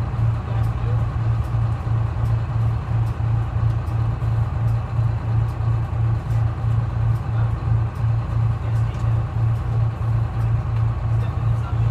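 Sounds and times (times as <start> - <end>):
diesel bus engine droning: 0.0 - 11.9.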